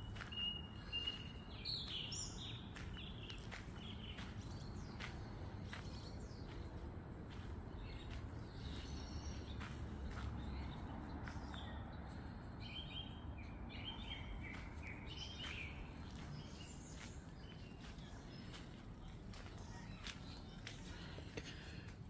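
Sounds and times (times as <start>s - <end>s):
small birds chirping and singing: 0.0s - 22.0s.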